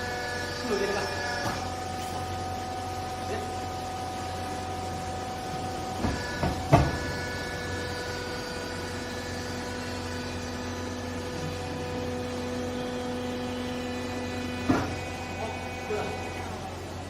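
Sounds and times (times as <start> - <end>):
baler machine humming: 0.0 - 17.0.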